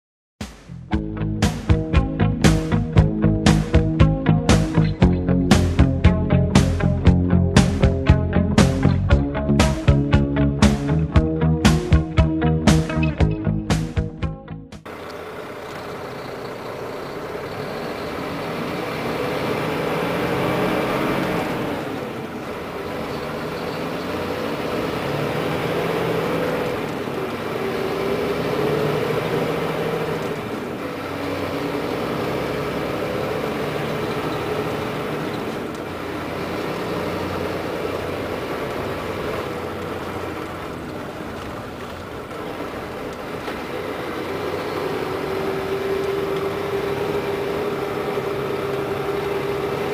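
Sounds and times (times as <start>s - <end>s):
diesel engine running under load: 1.0s - 49.9s.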